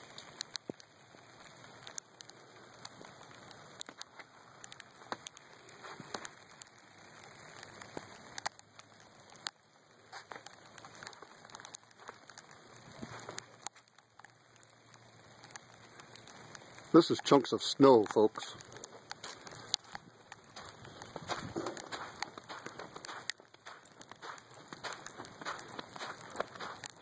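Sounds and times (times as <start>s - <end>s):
sleet and hail ticking: 0.0s - 27.0s
soft steady hiss: 0.0s - 27.0s.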